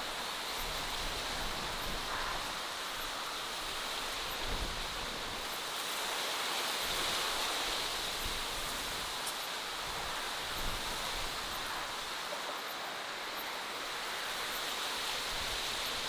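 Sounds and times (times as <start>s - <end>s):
outdoor ambience hiss: 0.0s - 16.0s.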